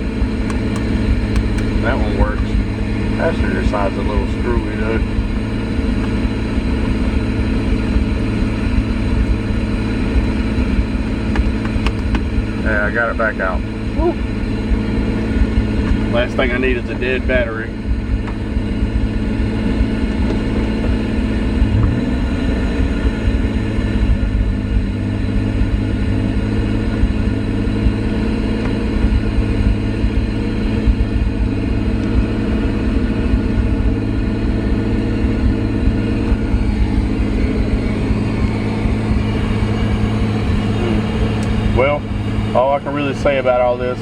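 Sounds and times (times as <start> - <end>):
car engine running steadily: 0.0 - 44.0.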